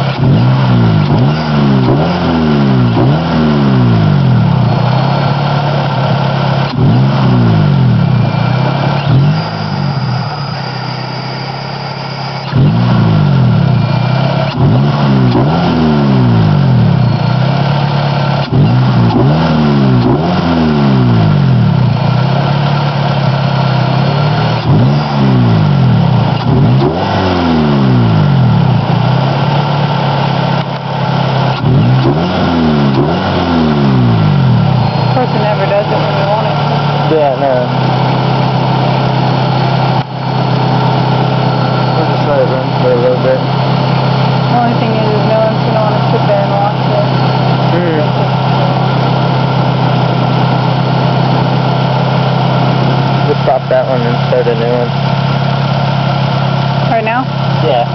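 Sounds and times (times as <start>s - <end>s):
car engine revving: 0.0s - 57.9s
engine idling: 0.0s - 57.9s.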